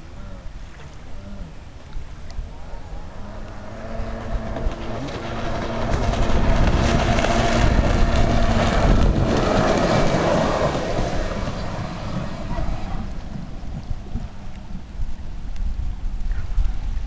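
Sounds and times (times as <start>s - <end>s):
jet ski engine running: 1.6s - 17.0s.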